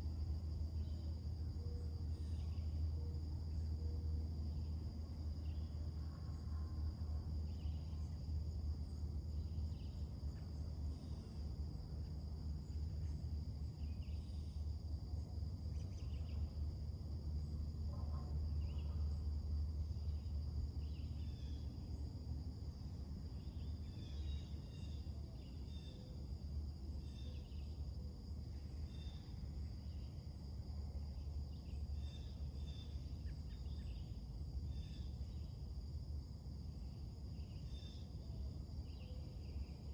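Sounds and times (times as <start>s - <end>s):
high insect drone: 0.0s - 39.9s
low steady rumble: 0.0s - 39.9s.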